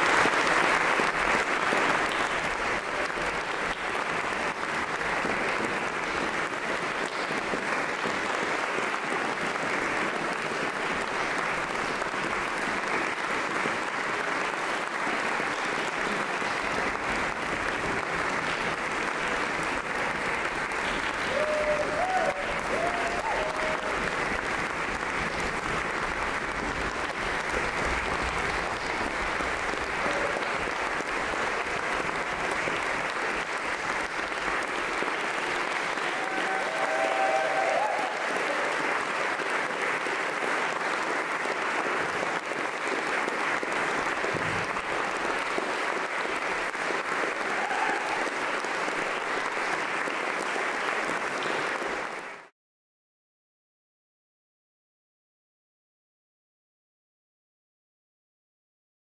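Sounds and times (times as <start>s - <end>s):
audience applauding: 0.0s - 52.5s.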